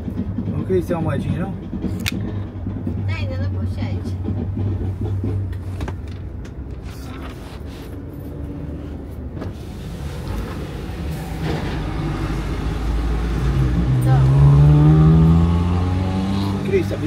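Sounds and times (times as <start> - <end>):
motorhome engine and road noise: 0.0 - 17.0.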